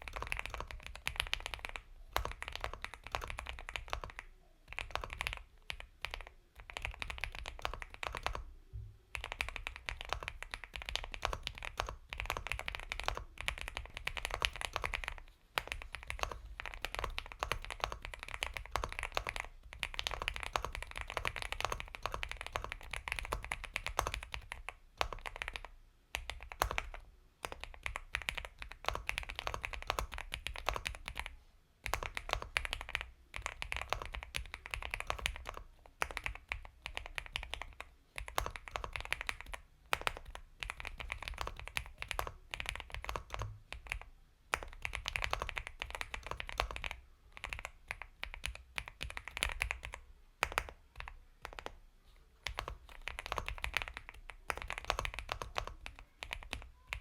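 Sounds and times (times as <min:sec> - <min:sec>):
mechanical keyboard typing: 0:00.0 - 0:08.5, 0:09.1 - 0:51.8, 0:52.4 - 0:57.0.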